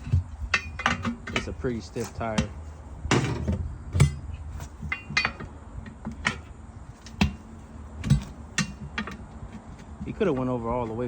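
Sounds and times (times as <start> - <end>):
scraping clatter: 0.0 - 11.0
tire irons clanking on wheel rim: 0.0 - 11.0.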